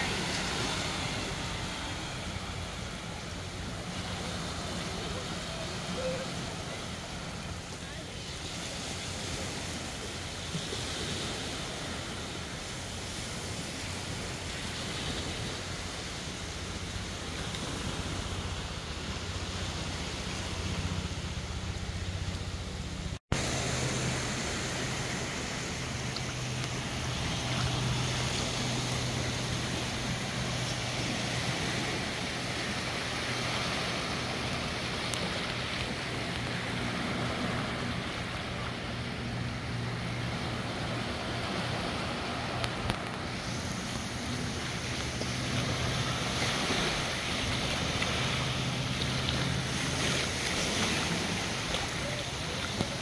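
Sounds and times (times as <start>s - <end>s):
small waves on sandy beach: 0.0s - 53.0s.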